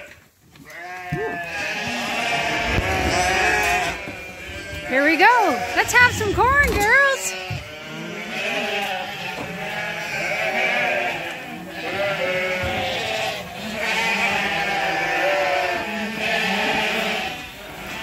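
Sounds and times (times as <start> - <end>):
sheep bleating: 0.0 - 18.0.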